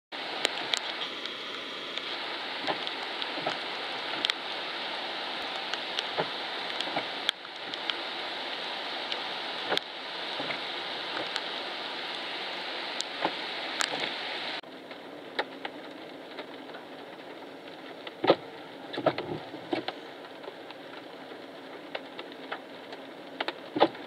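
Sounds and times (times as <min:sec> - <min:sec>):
rain hissing: 0:00.1 - 0:24.0.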